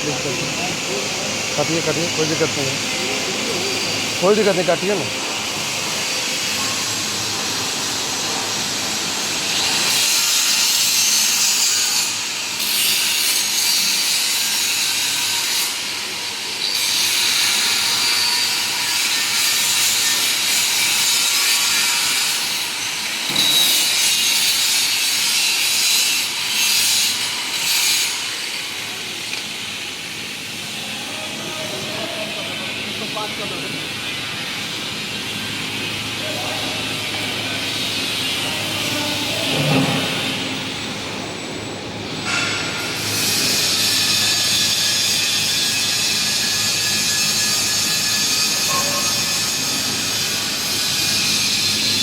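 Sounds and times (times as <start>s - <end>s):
steel cutting grinding noise: 0.0s - 41.4s, 42.1s - 52.0s.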